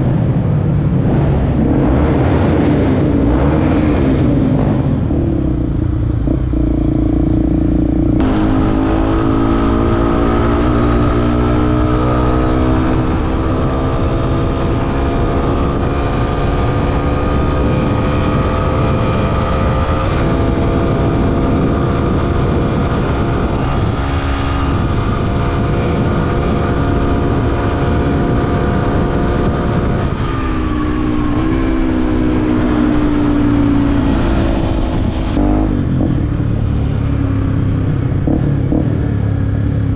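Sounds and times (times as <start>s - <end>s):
motorcycle engine under throttle: 0.9s - 39.9s.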